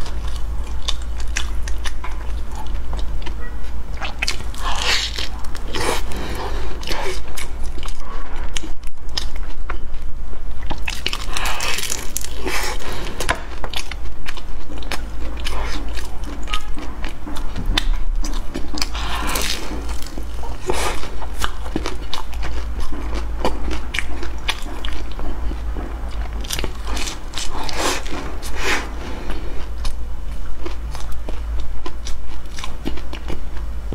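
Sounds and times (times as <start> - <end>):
biting and chewing bread: 0.0 - 33.9
steady low hum: 0.0 - 33.9.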